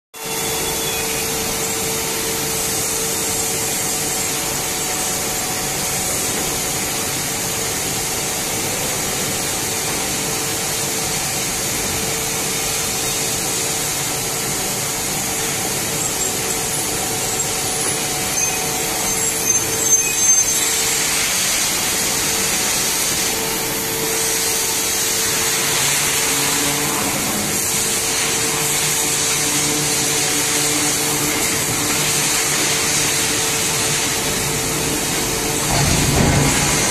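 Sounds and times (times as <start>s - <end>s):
steady machinery hum: 0.2s - 36.9s.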